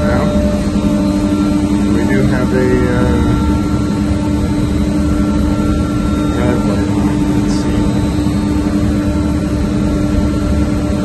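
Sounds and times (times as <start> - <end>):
machinery droning: 0.0 - 11.0.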